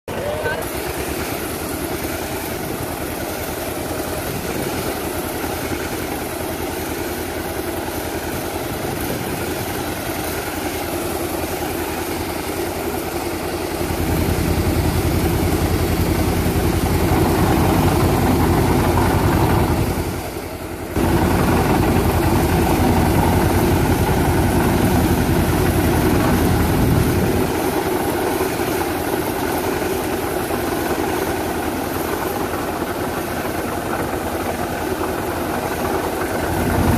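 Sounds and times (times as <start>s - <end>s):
engine driving pump: 0.1s - 36.9s.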